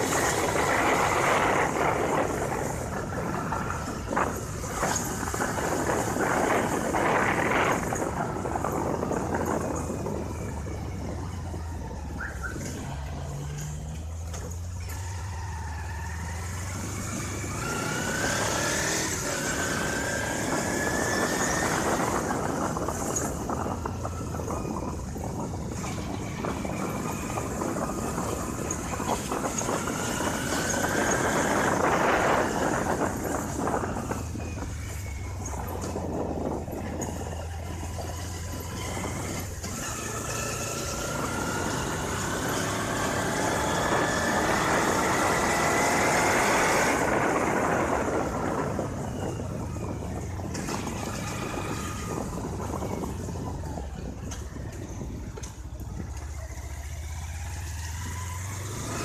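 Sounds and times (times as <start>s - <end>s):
motorcycle engine accelerating: 0.0s - 59.0s
road noise: 0.0s - 59.0s
wind on microphone: 0.0s - 59.0s.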